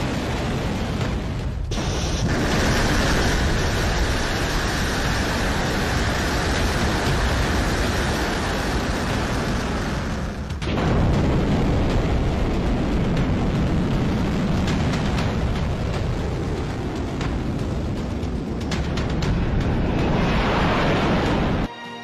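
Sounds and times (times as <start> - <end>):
rocket engines roaring at lift-off: 0.0 - 21.7.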